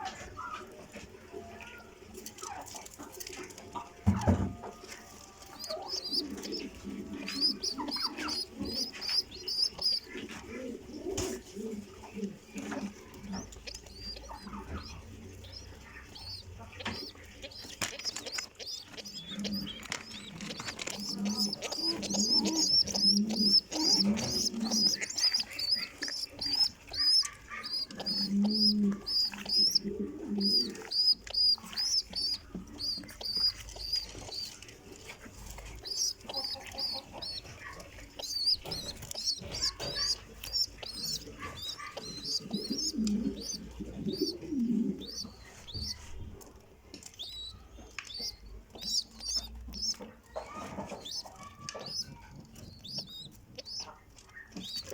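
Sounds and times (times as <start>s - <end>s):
pigeons cooing: 0.0s - 54.9s.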